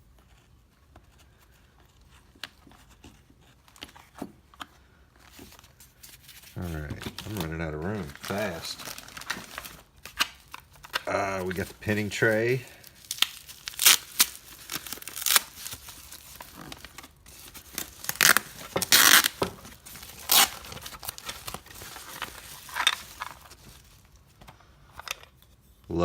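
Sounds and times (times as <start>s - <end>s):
packaging rustling and ripping: 1.3s - 25.2s.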